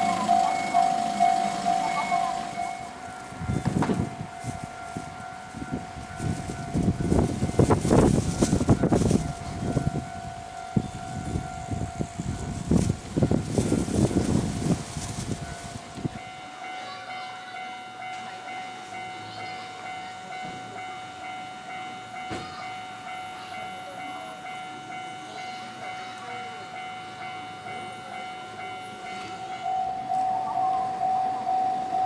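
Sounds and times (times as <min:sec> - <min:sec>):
level crossing warning bell: 0:00.0 - 0:32.0.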